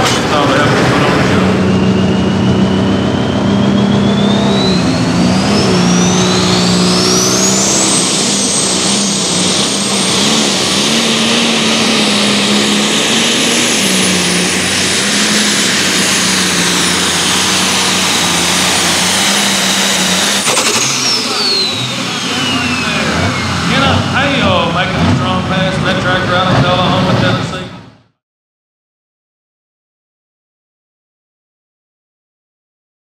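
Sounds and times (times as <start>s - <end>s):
tractor engine running hard: 0.0s - 28.1s
turbocharger whine: 0.0s - 28.2s.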